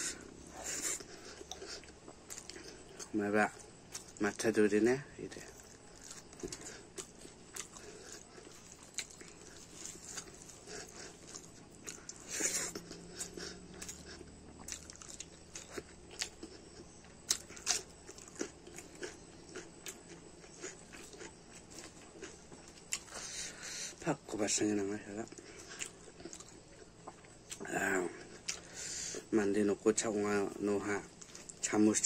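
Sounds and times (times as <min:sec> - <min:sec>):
close-up chewing with mouth clicks: 0:00.0 - 0:04.4, 0:05.5 - 0:24.0, 0:25.2 - 0:29.2, 0:31.1 - 0:31.7.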